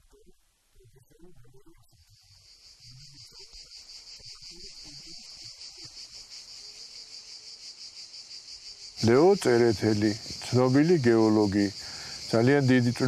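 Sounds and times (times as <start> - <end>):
insects chirping: 0.9 - 13.0.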